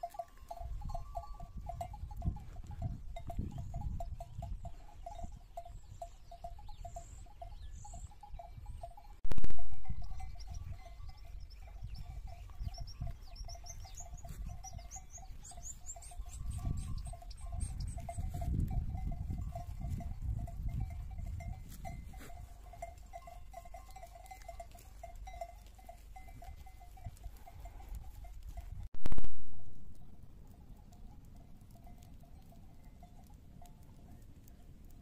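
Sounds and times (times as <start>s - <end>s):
wind rumbling on microphone: 0.0s - 35.0s.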